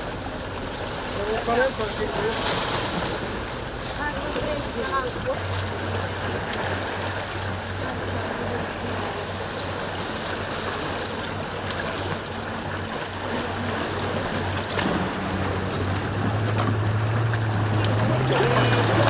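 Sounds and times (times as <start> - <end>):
sea washing against rocks: 0.0 - 19.0.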